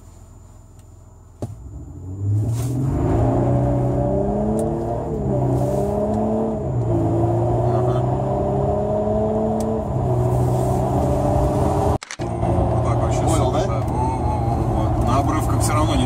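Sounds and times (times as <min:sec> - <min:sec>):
diesel engine accelerating: 0:01.6 - 0:16.0.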